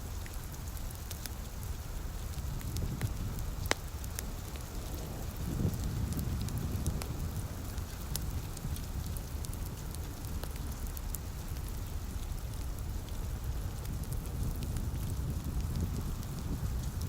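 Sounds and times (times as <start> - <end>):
light rain pattering: 0.0 - 17.0
wood fire crackling and popping: 0.0 - 17.0.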